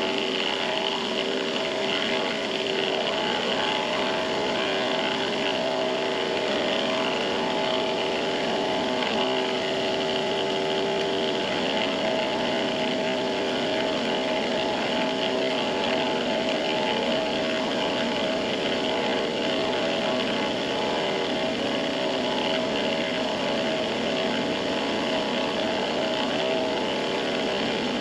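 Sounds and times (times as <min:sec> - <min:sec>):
machine tool motor running: 0:00.0 - 0:28.0
whine of cutting aluminium: 0:00.0 - 0:28.0.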